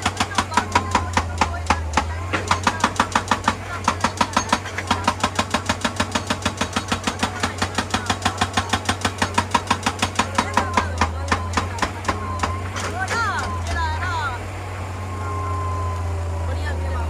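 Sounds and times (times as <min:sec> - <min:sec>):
diesel engine drone: 0:00.0 - 0:17.0
hydraulic rock breaker hammering rock: 0:00.0 - 0:17.0.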